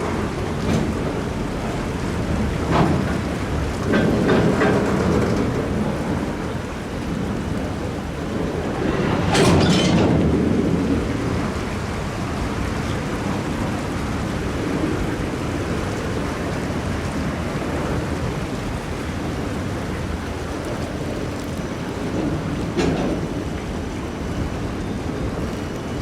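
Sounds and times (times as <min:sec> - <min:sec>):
train rolling through water: 0:00.0 - 0:26.0
water rushing and churning: 0:00.0 - 0:26.0
wind buffeting microphone: 0:00.0 - 0:26.0.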